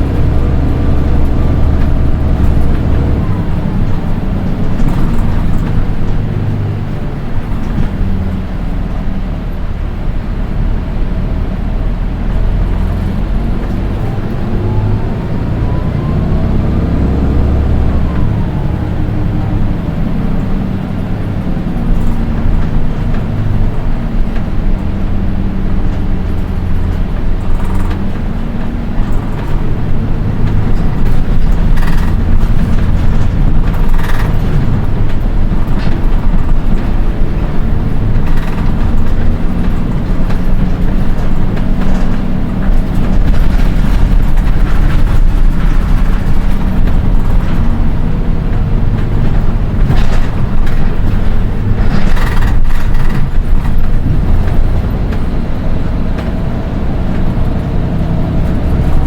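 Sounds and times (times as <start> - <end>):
rattles and knocks: 0.0 - 9.0, 12.2 - 59.0
bus diesel engine drone: 0.0 - 59.0
high-pitched engine whine: 0.0 - 59.0.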